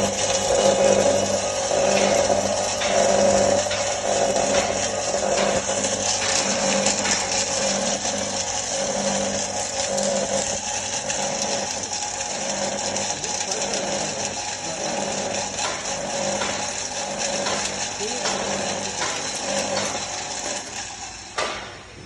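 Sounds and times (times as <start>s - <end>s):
mixer grinder running: 0.0s - 22.0s.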